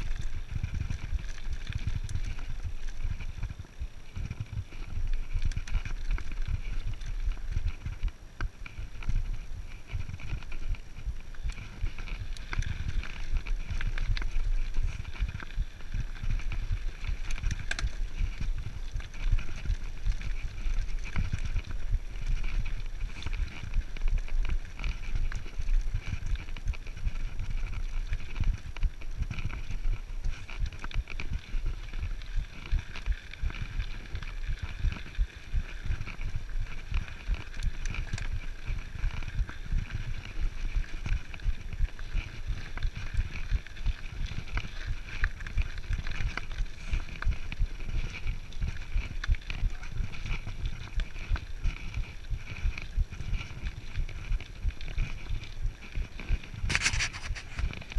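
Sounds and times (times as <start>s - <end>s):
bike rattling: 0.0s - 57.9s.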